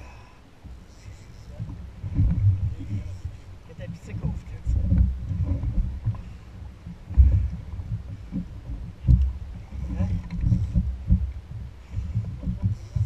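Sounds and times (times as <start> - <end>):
water sloshing against hull: 0.0 - 13.0
wind buffeting microphone: 0.0 - 13.0.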